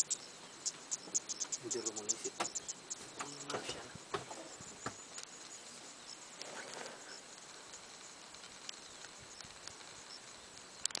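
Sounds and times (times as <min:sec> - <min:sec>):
soft ticks: 0:00.0 - 0:03.7, 0:04.8 - 0:06.5, 0:07.1 - 0:11.0
faint high chirps: 0:00.0 - 0:11.0
low hiss: 0:00.0 - 0:11.0.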